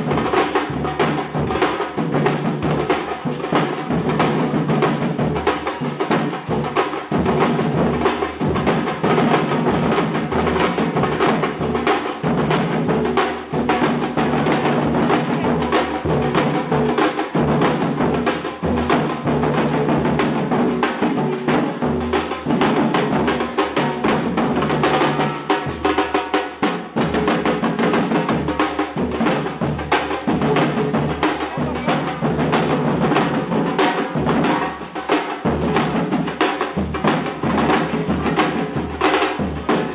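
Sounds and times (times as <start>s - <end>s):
children's percussion group drumming: 0.0s - 39.9s.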